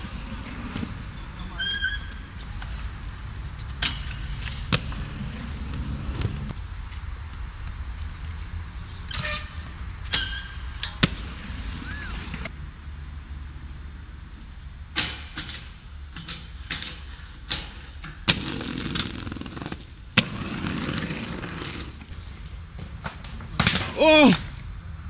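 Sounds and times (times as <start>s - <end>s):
skate wheels rolling on hard ground: 0.0s - 12.5s, 14.1s - 25.0s.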